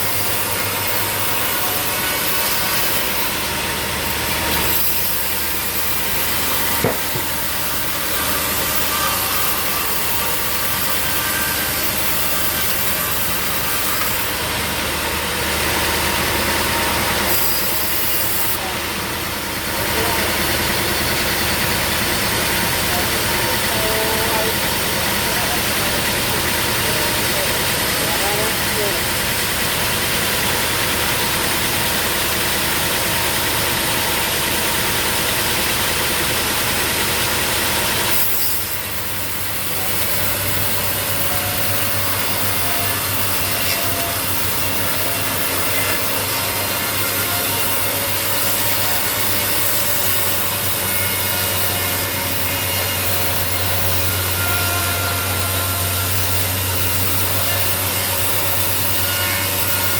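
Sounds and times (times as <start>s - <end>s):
mill engine hum: 0.0s - 59.9s
sawmill blade cutting log: 0.0s - 59.9s.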